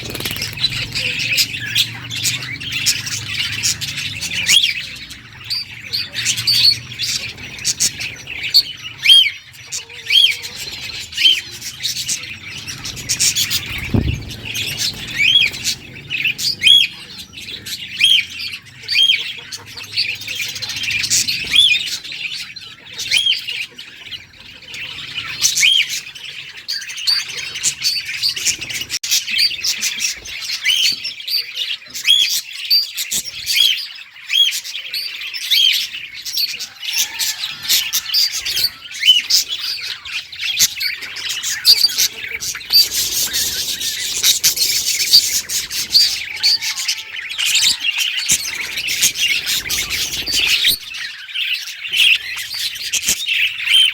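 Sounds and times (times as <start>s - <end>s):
budgerigars chattering and chirping: 0.0s - 53.9s.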